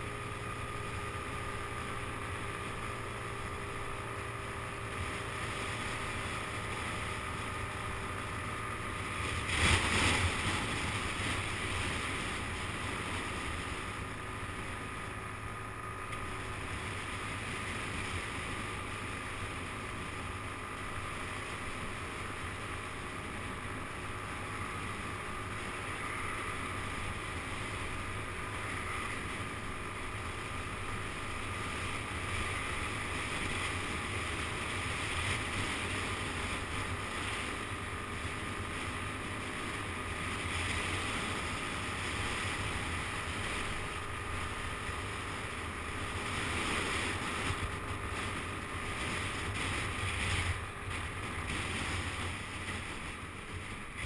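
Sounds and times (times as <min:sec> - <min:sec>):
scooter engine running: 0:00.0 - 0:54.0.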